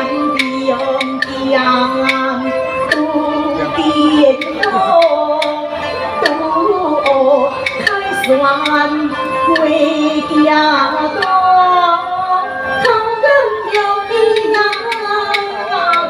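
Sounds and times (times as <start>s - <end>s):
opera band instruments: 0.0s - 16.0s
opera singing voice: 0.0s - 16.0s
sharp percussion clicks: 0.1s - 12.0s, 12.8s - 16.0s.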